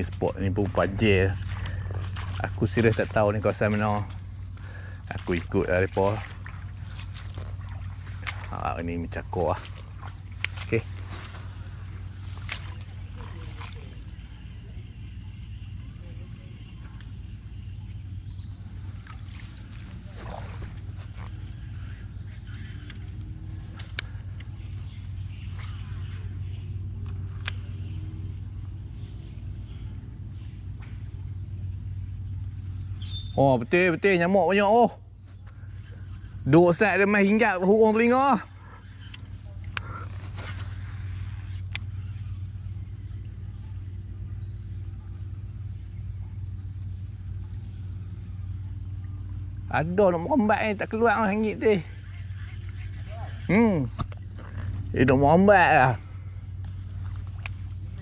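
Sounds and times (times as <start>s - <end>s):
constant low hum: 0.0s - 58.0s
high insect drone: 0.0s - 58.0s.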